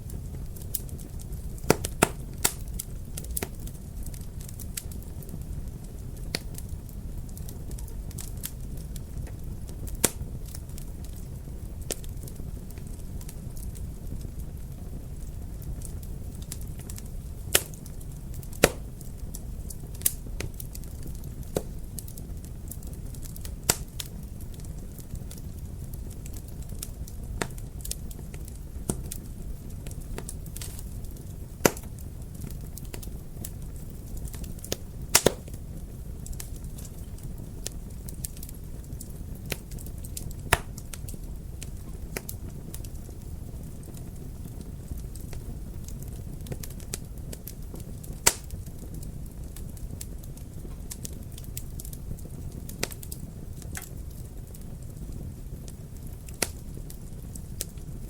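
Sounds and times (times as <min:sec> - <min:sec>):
fire popping: 0:00.0 - 0:58.0
wood fire rumbling: 0:00.0 - 0:58.0.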